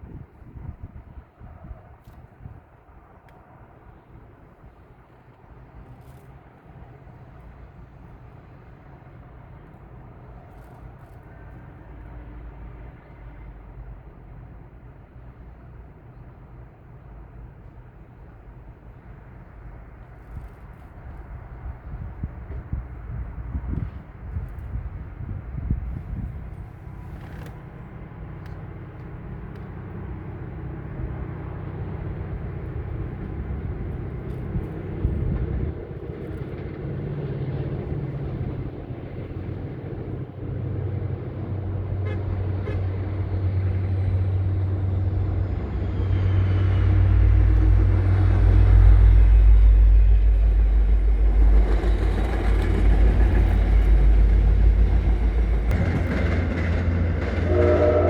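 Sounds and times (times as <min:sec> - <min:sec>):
diesel locomotive rumbling: 0:00.0 - 0:58.0.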